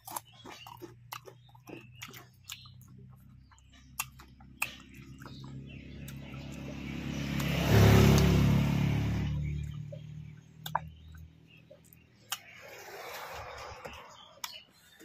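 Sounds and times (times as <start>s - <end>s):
wet chewing and lip smacks: 0.0s - 8.3s, 9.5s - 13.3s, 14.4s - 14.7s
vehicle engine hum: 2.3s - 14.4s.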